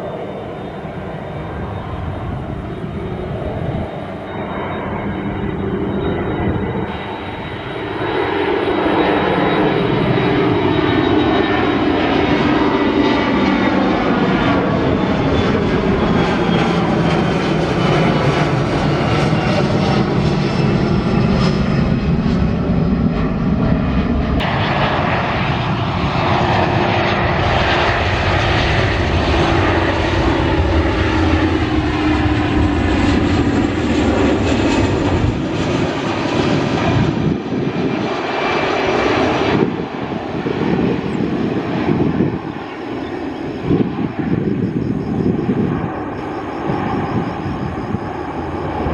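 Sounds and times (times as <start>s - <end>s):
airliner engines passing: 0.0s - 48.9s.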